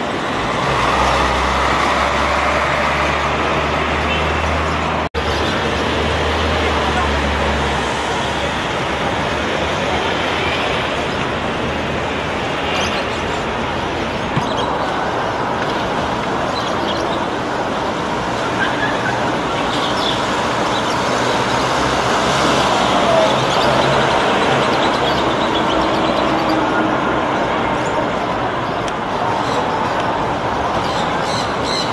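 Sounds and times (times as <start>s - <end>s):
road vehicles passing: 0.0s - 31.9s.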